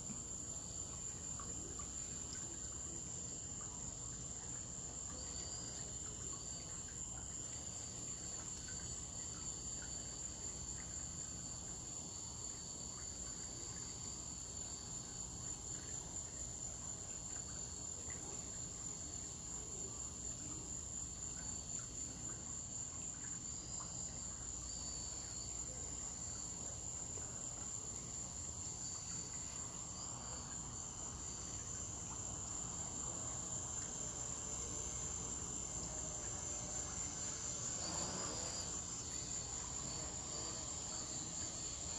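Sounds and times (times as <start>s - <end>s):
fainter wavering insect trill: 0.4s - 41.9s
high-pitched insect trill: 0.4s - 41.9s.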